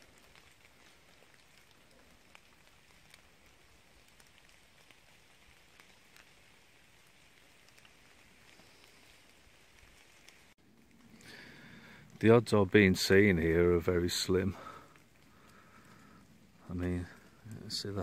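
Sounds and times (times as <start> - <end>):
raindrops tapping on leaves: 0.0 - 18.0
soft rain hiss: 0.0 - 18.0.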